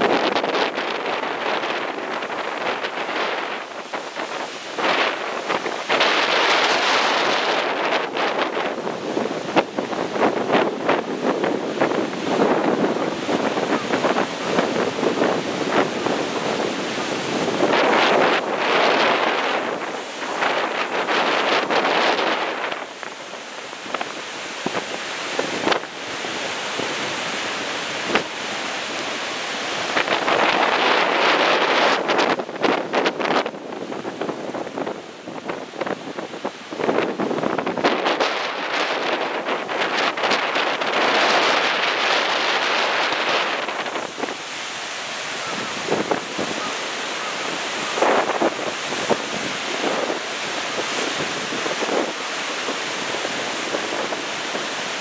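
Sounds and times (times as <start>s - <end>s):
heavy surf breaking: 0.0s - 55.0s
wind buffeting microphone: 0.0s - 55.0s.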